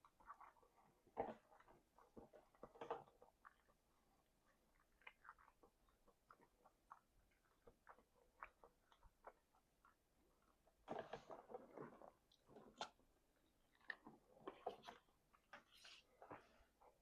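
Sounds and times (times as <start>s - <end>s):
open-mouth chewing: 0.0s - 17.0s.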